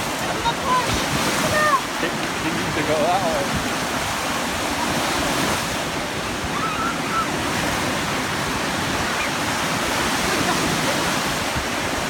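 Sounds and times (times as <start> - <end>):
waves breaking and washing in: 0.0 - 12.0.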